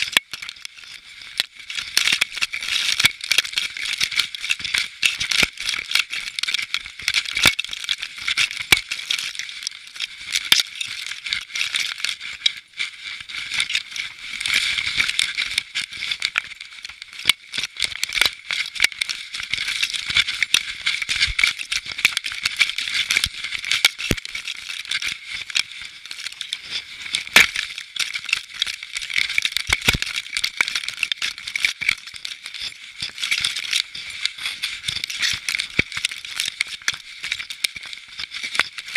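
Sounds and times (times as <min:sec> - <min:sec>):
camera rattling and clicking: 0:00.0 - 0:12.6, 0:13.6 - 0:38.9.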